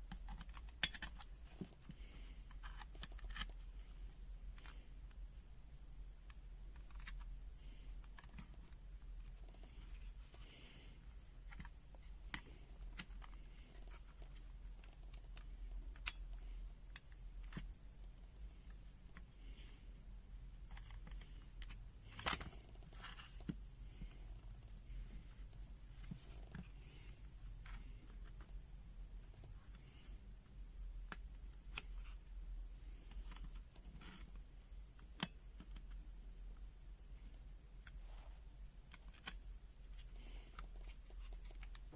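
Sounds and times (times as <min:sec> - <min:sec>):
low steady hum: 0:00.0 - 0:41.9.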